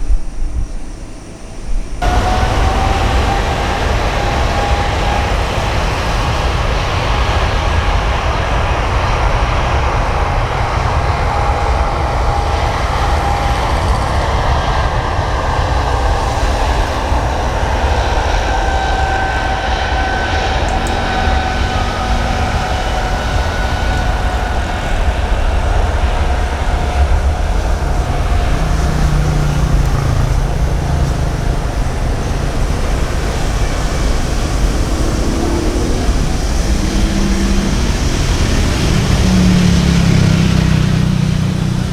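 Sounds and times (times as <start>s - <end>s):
jet engines rumbling with whine: 0.0s - 41.9s.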